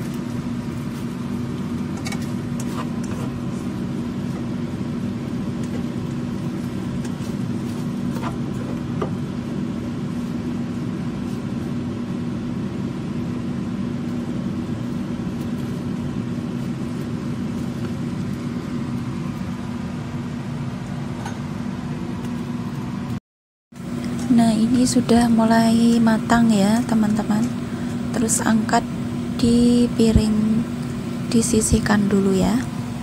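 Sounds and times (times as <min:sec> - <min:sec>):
kitchen appliance humming: 0:00.0 - 0:23.2, 0:23.8 - 0:33.0.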